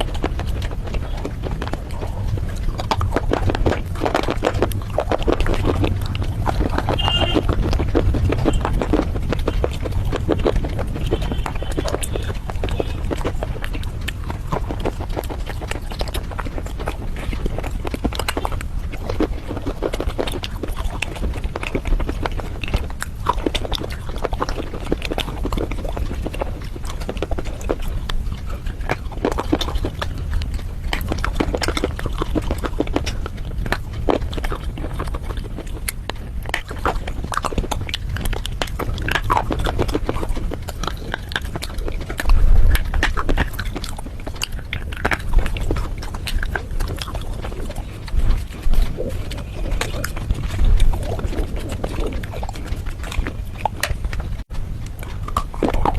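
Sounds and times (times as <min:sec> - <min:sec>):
crunching and chewing: 0:00.0 - 0:55.9.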